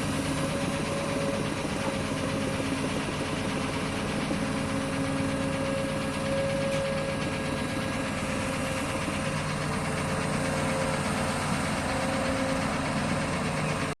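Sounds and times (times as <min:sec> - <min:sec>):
diesel engine running at low revs: 0:00.0 - 0:14.0.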